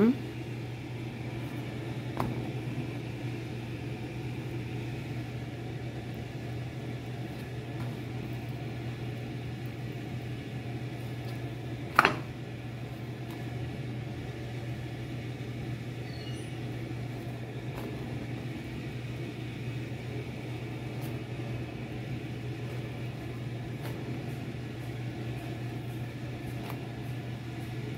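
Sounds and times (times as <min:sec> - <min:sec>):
gas stove hiss: 0:00.0 - 0:27.9
low kitchen hum: 0:00.0 - 0:27.9.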